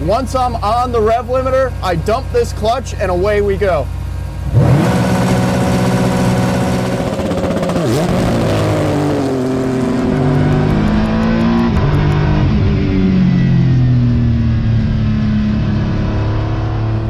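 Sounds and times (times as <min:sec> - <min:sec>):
race car engine at full throttle: 0:00.0 - 0:17.0.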